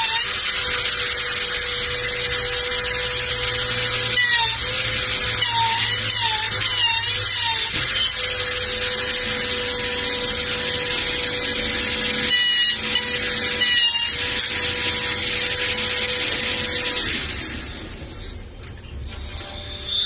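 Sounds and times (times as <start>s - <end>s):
router spindle motor whine: 0.0s - 18.0s.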